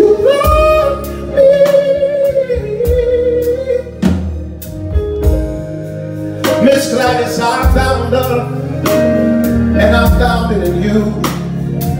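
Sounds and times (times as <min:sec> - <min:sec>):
live band music: 0:00.0 - 0:11.9.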